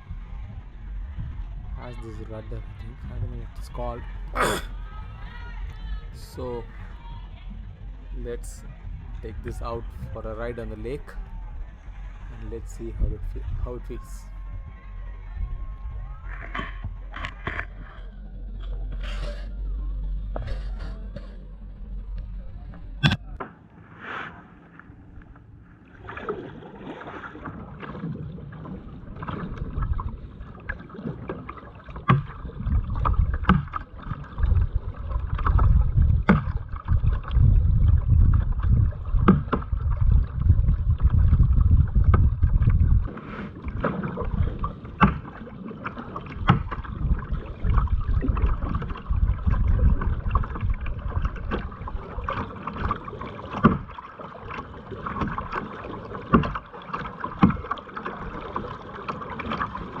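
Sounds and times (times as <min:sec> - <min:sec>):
wind on microphone: 0:00.0 - 0:31.2, 0:32.0 - 0:54.0
paddle splashing and knocking: 0:00.0 - 1:00.0.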